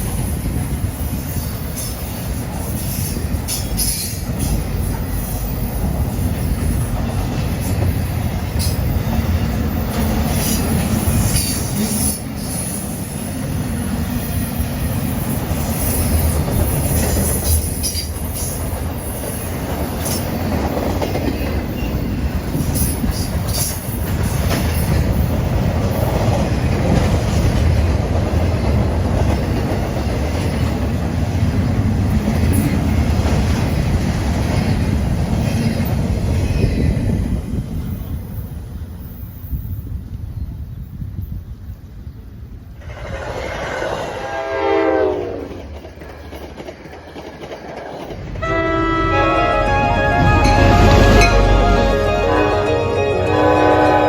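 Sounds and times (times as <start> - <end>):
freight train wheels rumbling on rail: 0.0 - 51.8.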